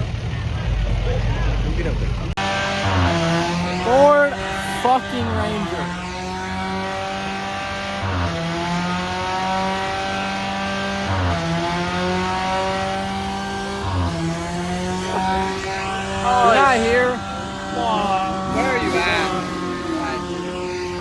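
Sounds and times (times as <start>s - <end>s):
engine at high revs: 0.0s - 21.0s.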